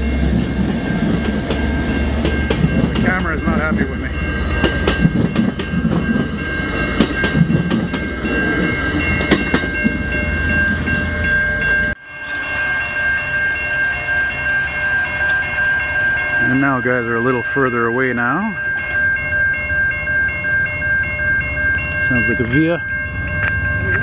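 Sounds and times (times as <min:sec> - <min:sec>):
crossing warning bell ringing: 0:00.0 - 0:24.0
train rumble: 0:00.0 - 0:24.0.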